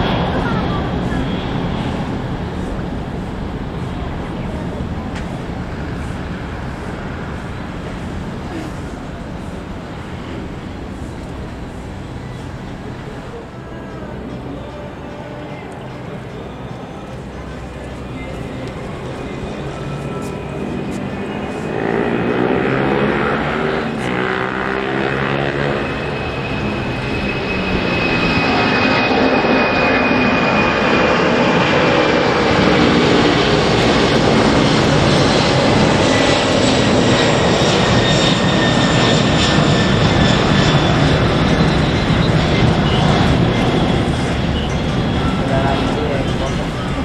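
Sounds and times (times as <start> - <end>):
high jet engine whine: 0.0 - 47.0
jet engines roaring: 0.0 - 47.0.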